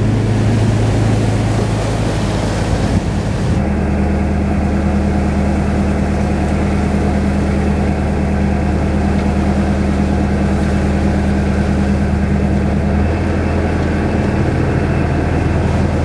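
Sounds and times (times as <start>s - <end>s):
boat diesel engine running: 0.0s - 16.0s.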